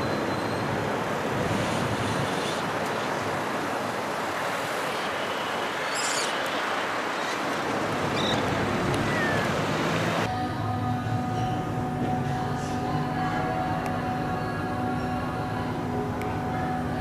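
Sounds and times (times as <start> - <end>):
road traffic: 0.0 - 17.0
wind: 0.0 - 17.0.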